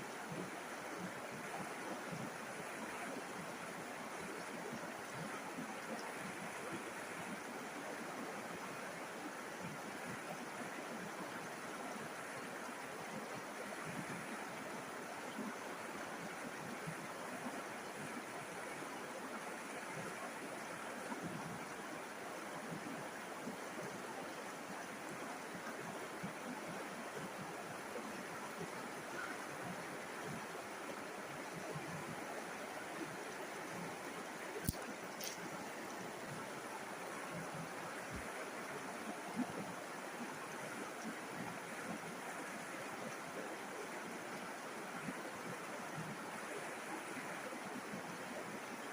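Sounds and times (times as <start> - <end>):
river flowing: 0.0 - 48.9.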